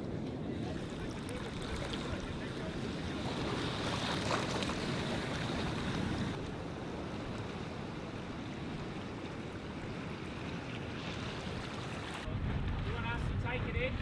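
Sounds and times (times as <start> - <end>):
sea water rushing: 0.0 - 13.2.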